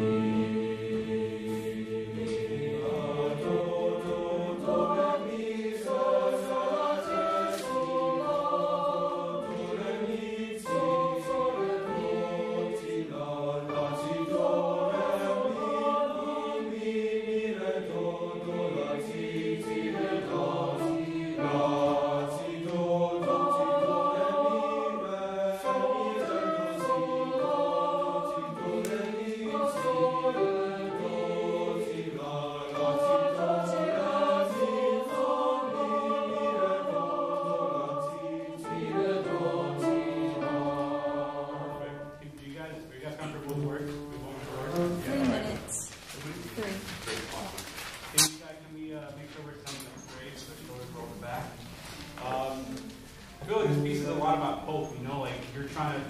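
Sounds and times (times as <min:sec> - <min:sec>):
boys' choir singing: 0:00.0 - 0:47.6, 0:49.3 - 0:56.0.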